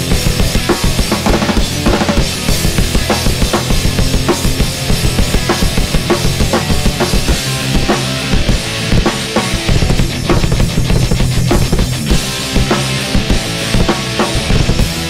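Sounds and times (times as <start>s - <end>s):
drum kit fast beat: 0.0s - 15.0s
punk band playing: 0.0s - 15.0s.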